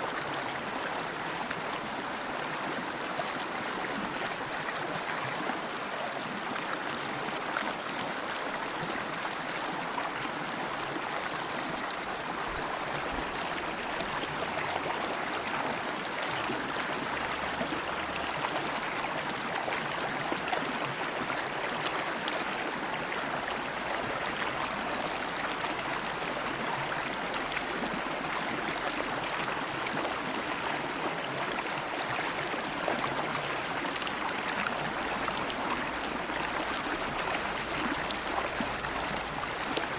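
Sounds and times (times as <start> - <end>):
river water flowing over rocks: 0.1 - 39.9.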